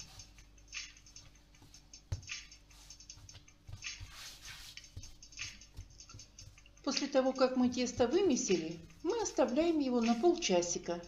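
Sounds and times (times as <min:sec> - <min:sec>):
hands kneading dough: 0:00.0 - 0:11.0.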